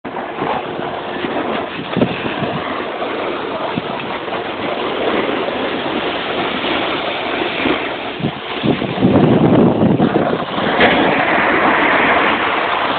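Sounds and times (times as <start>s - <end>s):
wind rushing over microphone: 0.0s - 12.9s
snowboard scraping over snow: 0.1s - 12.9s.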